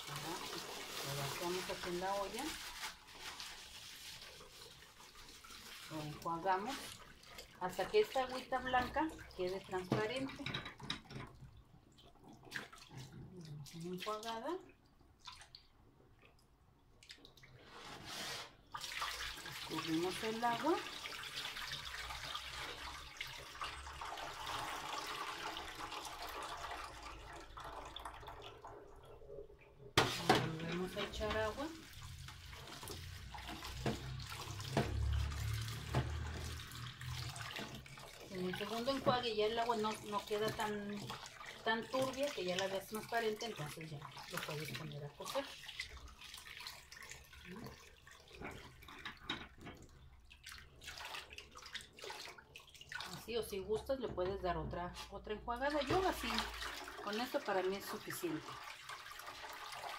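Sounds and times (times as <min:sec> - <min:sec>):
water pouring into a sink: 0:00.0 - 0:15.6, 0:18.6 - 0:53.6, 0:55.6 - 0:59.9.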